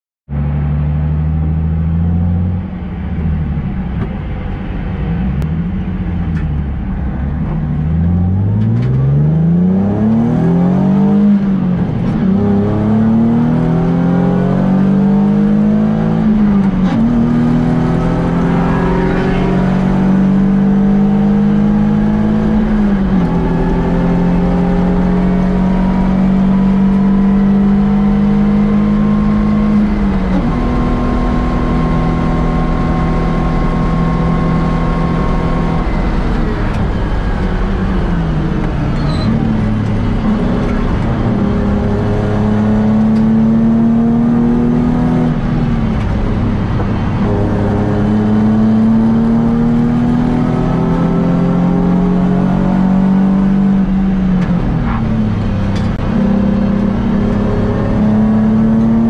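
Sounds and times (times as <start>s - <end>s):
car engine accelerating: 0.3s - 59.0s.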